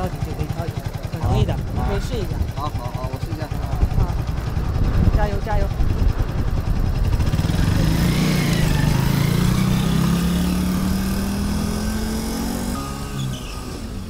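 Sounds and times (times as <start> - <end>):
go-kart engine accelerating: 0.0 - 14.0.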